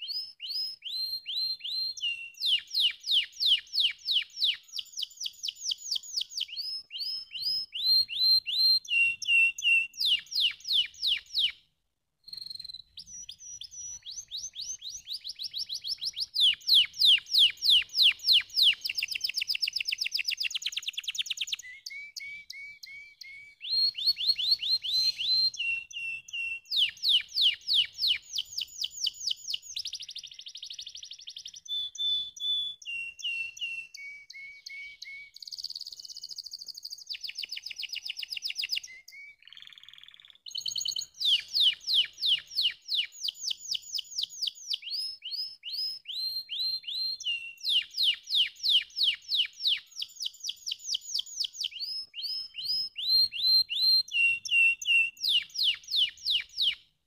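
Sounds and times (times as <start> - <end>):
canary singing trills: 0.0 - 11.6, 12.3 - 56.8.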